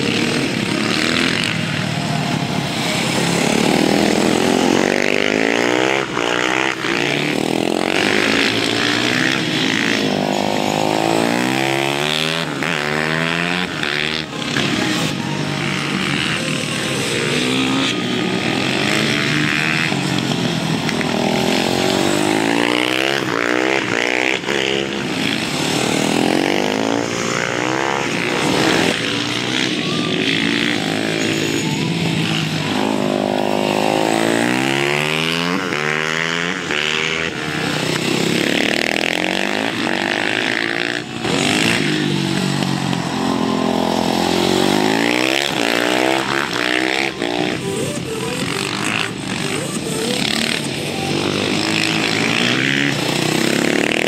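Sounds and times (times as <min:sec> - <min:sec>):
motorcycle engines passing: 0:00.0 - 0:54.0.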